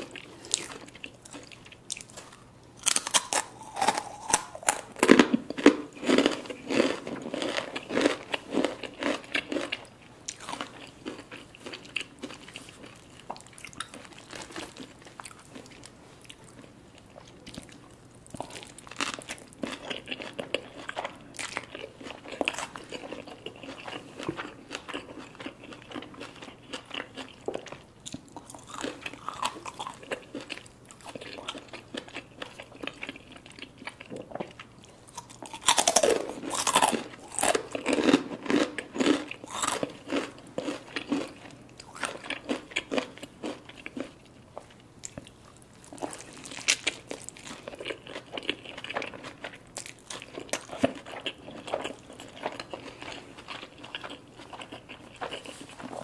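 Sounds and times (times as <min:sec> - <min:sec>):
wet chewing: 0:00.0 - 0:56.0.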